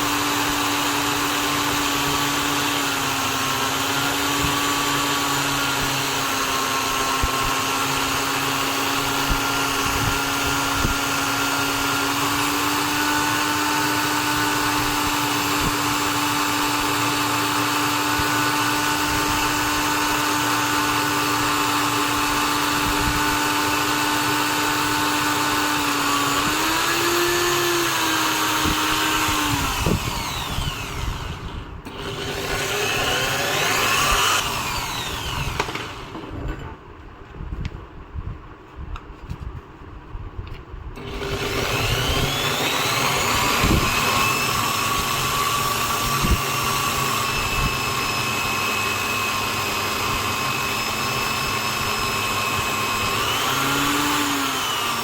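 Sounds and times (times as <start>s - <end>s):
drill press motor running: 0.0s - 36.6s, 41.0s - 55.0s.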